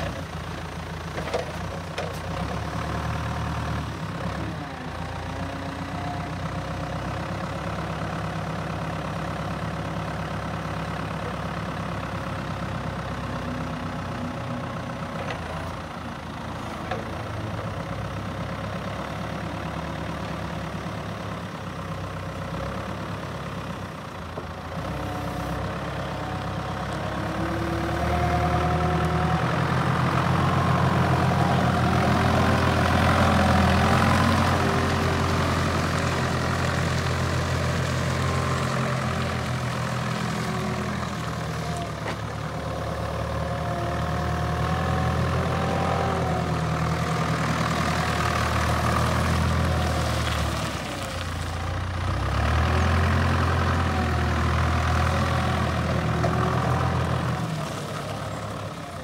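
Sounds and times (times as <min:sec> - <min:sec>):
forklift engine running: 0:00.0 - 0:59.0.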